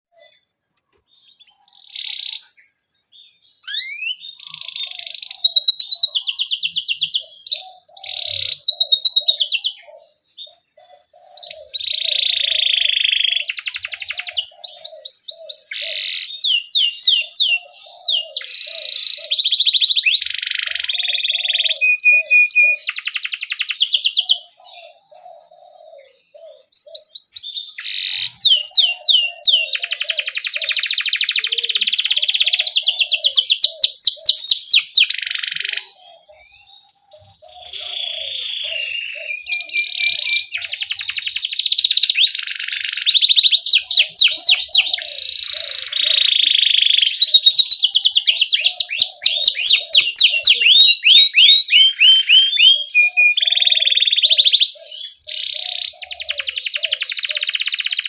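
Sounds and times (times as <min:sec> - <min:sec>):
canary singing trills: 0:00.1 - 0:58.0.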